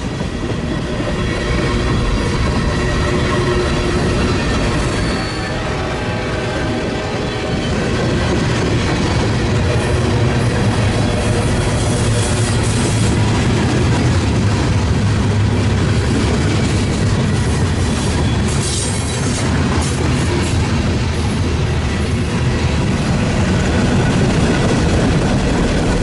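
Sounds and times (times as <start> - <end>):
metallic rail noise: 0.0 - 26.0
train rumbling past: 0.0 - 26.0.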